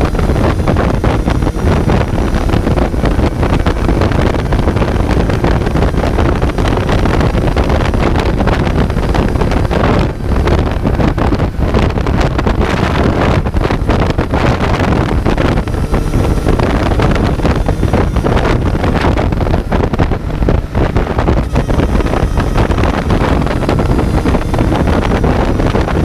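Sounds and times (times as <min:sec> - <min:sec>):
motorcycle engine running: 0:00.0 - 0:26.0
wind buffeting on microphone: 0:00.0 - 0:26.0.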